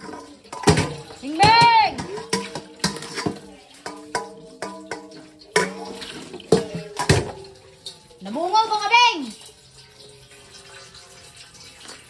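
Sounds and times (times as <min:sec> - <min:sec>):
metal pot clanking against sink: 0:00.0 - 0:12.0
water running from a tap: 0:00.0 - 0:12.0.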